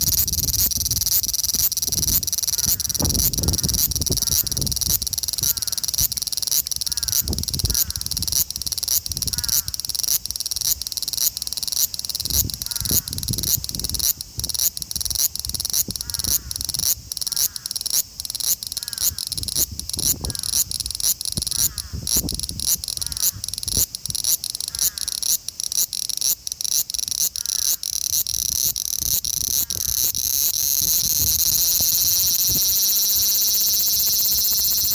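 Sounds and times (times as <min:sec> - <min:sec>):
cicada buzzing: 0:00.0 - 0:34.9.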